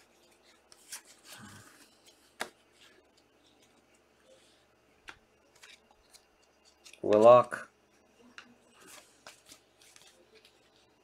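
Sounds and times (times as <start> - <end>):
cards rustling and sliding: 0.0 - 7.4, 8.4 - 11.0.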